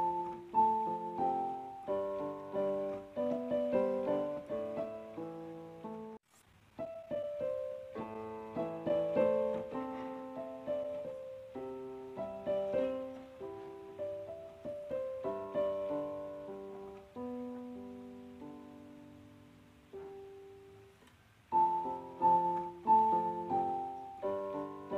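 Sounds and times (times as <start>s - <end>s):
slow gentle piano music: 0.0s - 24.9s.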